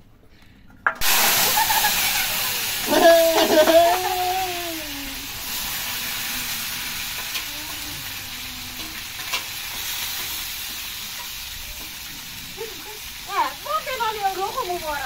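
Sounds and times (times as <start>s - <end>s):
food sizzling in a pan: 1.0s - 15.0s.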